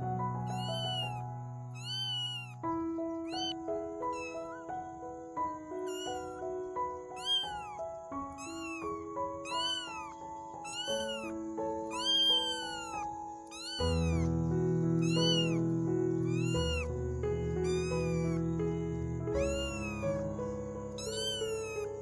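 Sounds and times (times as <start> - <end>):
kitten meowing: 0.5 - 1.2, 1.8 - 2.6, 3.3 - 22.0.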